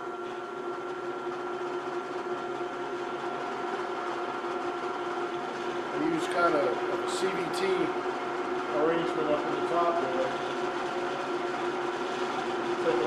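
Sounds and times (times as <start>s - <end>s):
drill press humming: 0.0s - 13.0s.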